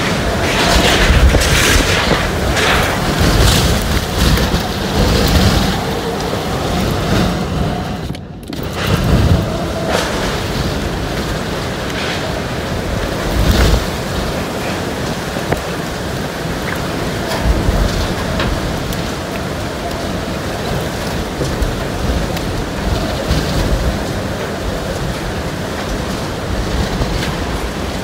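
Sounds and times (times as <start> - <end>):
hurricane wind and rain: 0.0 - 28.0
wind buffeting microphone: 0.0 - 28.0.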